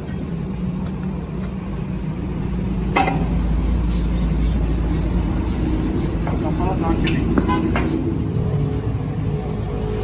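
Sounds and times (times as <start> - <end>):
low mechanical rumble: 0.0 - 10.0.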